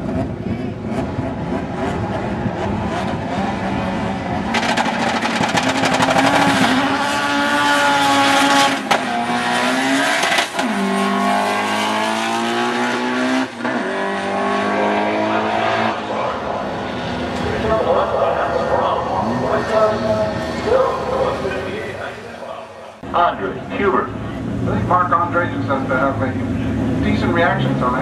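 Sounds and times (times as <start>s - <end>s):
race car accelerating: 0.0s - 28.0s.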